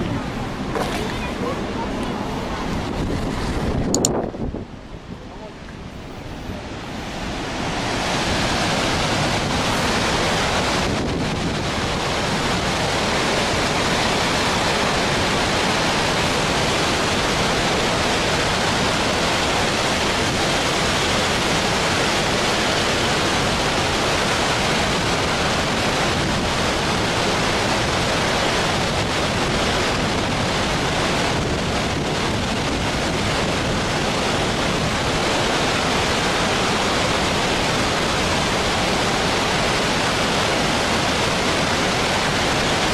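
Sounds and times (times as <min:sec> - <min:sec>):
water rushing over weir: 0:00.0 - 0:42.9.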